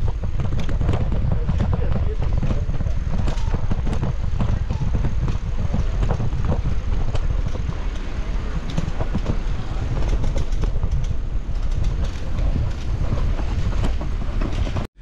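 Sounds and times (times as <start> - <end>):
bicycle rattling over cobblestones: 0.0 - 14.9
wind buffeting microphone: 0.0 - 15.0.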